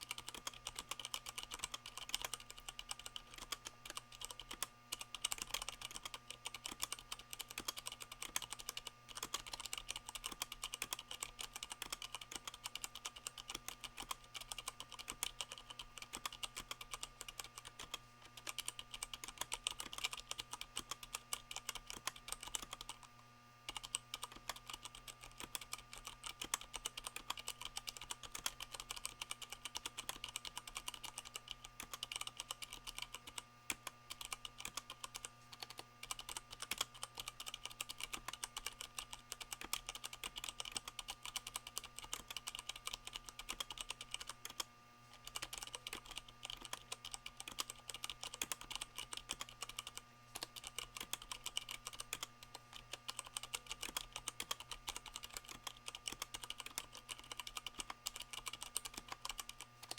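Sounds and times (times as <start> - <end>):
mechanical keyboard typing: 0.0 - 23.1, 23.7 - 59.9.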